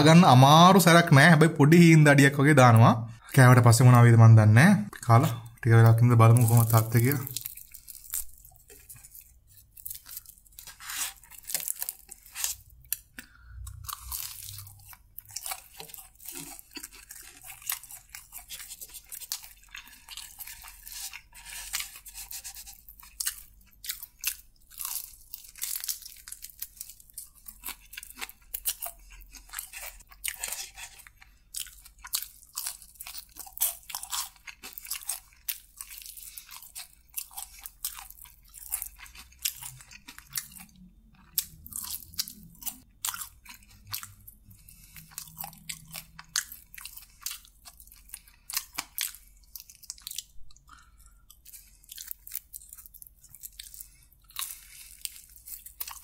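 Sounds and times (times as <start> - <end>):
crunching and chewing fried chicken: 4.8 - 56.0.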